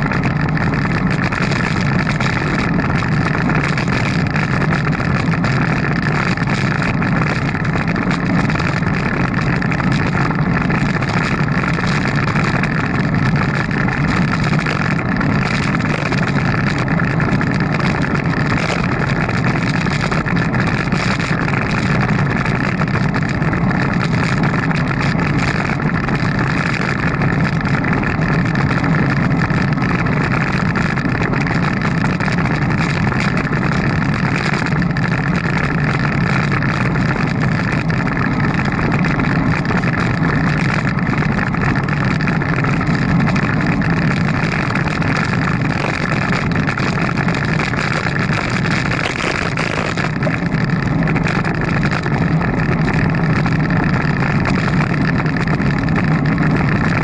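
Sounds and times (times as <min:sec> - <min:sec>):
road noise: 0:00.0 - 0:57.0
wind rush: 0:00.0 - 0:57.0.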